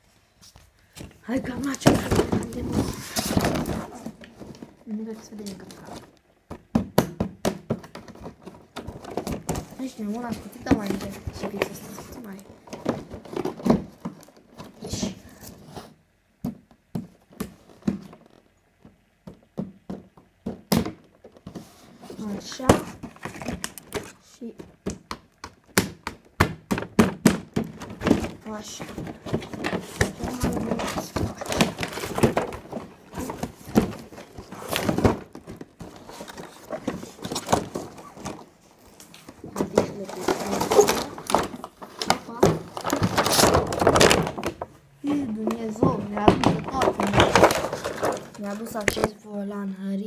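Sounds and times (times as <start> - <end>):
packaging rustling: 0.8 - 6.3, 7.7 - 15.9, 21.2 - 26.2, 26.8 - 49.1
packaging knocks and clicks: 1.0 - 15.4, 16.4 - 49.1.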